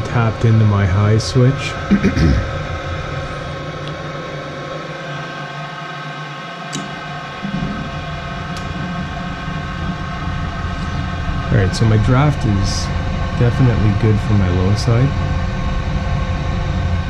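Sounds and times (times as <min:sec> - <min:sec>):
furnace motor humming: 0:00.0 - 0:17.0.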